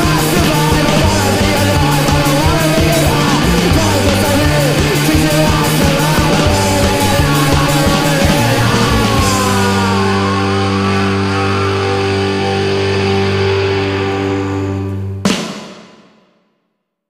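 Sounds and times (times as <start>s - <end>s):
rock music with distorted guitar: 0.0s - 16.1s.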